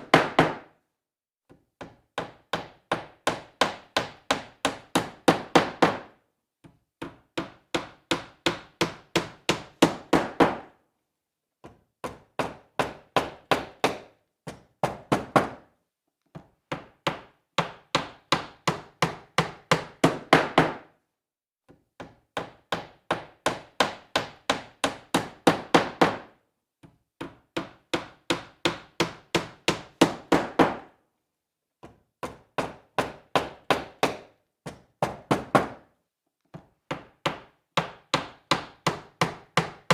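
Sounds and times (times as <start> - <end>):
hammer driving nails into wood: 0.0 - 0.7, 1.5 - 10.8, 11.6 - 15.7, 16.3 - 20.9, 21.7 - 30.9, 31.8 - 39.9.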